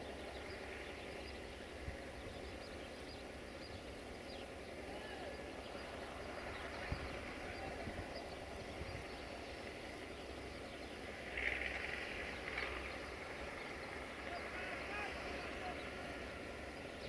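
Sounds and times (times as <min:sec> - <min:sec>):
diesel rail vehicle rumbling: 0:00.0 - 0:17.0.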